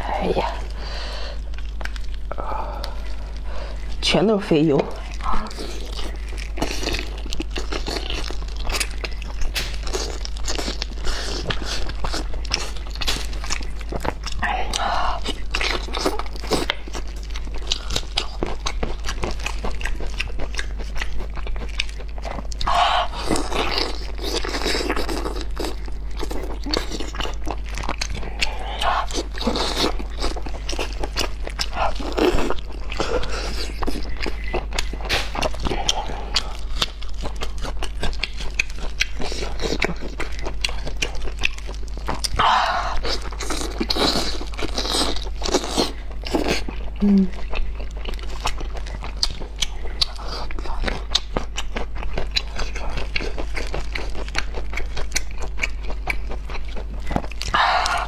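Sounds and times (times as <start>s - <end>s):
chewing and wet mouth smacks: 1.4s - 4.0s, 4.7s - 58.0s.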